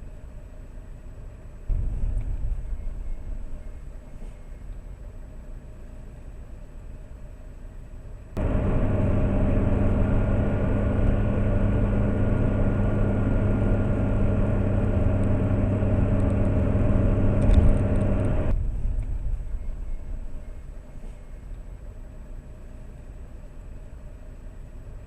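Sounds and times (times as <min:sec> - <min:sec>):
car engine hum: 0:00.0 - 0:25.0
road noise inside car cabin: 0:00.0 - 0:25.0.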